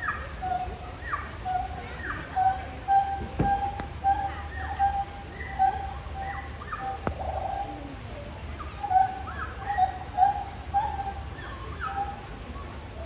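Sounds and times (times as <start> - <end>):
birds whistling: 0.0 - 8.0, 8.6 - 13.0.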